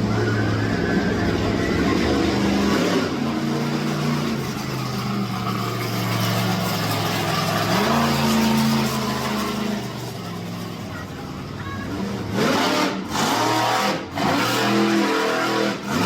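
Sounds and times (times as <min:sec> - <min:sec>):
loud monster truck engine revving: 0:00.0 - 0:16.0.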